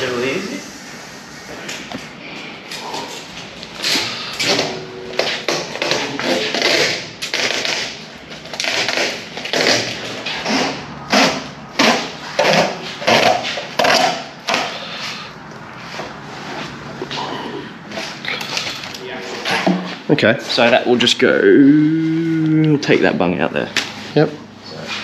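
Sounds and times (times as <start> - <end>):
scraping noises: 1.3 - 25.0.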